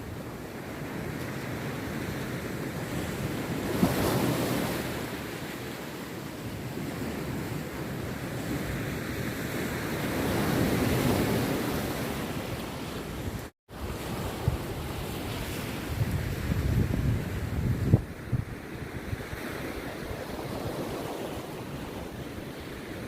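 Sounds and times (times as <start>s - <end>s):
sea surf breaking on beach: 0.0s - 23.0s.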